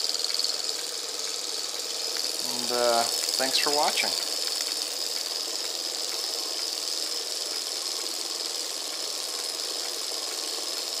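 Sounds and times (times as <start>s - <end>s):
model engines whirring: 0.0s - 11.0s.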